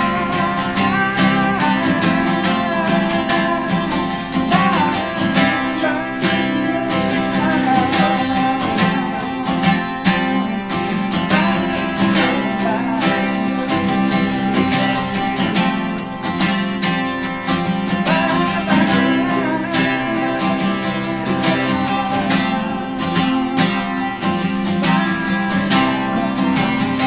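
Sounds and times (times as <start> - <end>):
country band playing: 0.0 - 27.0
strummed acoustic guitar: 0.0 - 27.0.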